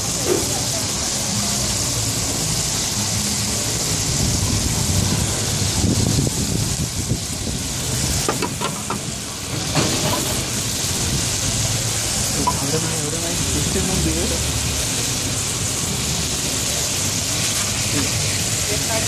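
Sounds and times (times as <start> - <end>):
gas flame rumble: 0.0 - 19.0
seafood sizzling in oil: 0.0 - 19.0.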